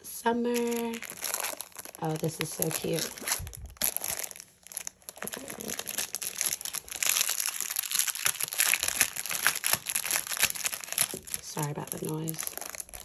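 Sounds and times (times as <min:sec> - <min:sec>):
plastic sleeve crinkling: 0:00.0 - 0:13.0.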